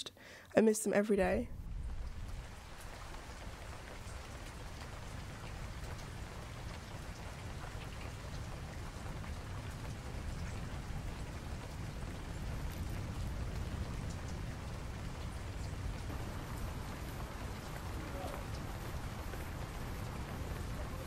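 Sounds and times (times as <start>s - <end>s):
wind rumble on microphone: 1.2s - 21.0s.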